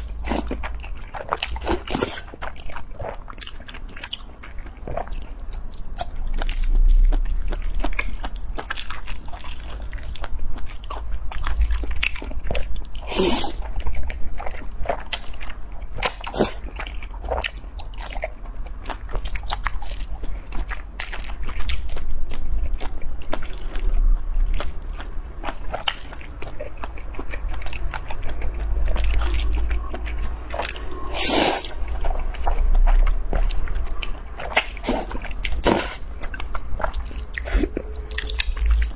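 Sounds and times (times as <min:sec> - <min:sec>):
chewing and slurping noodles: 0:00.0 - 0:38.9.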